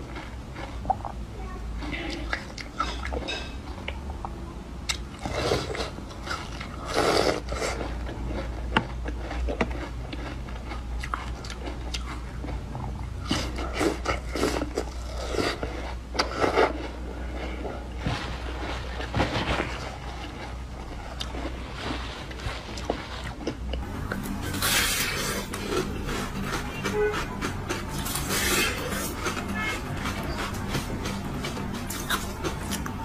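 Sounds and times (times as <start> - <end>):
crunching frozen milk ice: 4.9 - 33.0.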